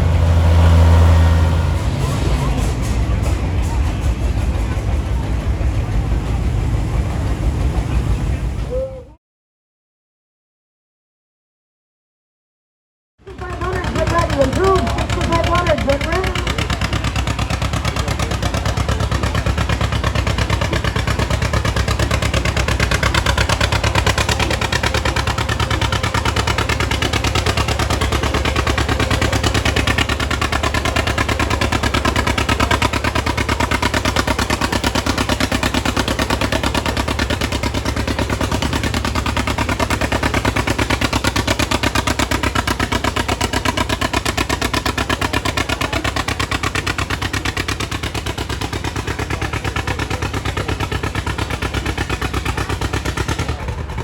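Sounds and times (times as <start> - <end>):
tractor engine running hard: 0.0 - 9.1, 13.2 - 54.0.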